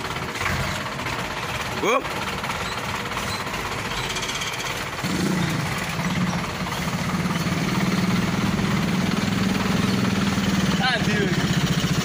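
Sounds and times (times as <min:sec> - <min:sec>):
diesel truck engine clattering: 0:00.0 - 0:12.0.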